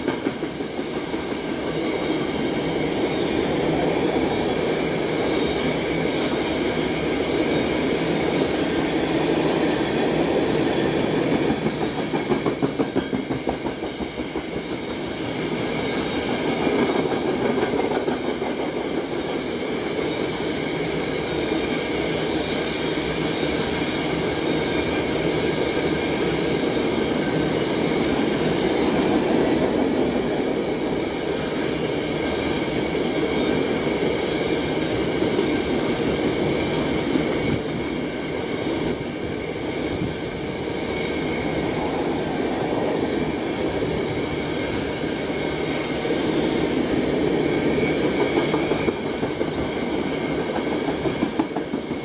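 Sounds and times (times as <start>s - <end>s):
freight train rolling past: 0.0s - 52.0s.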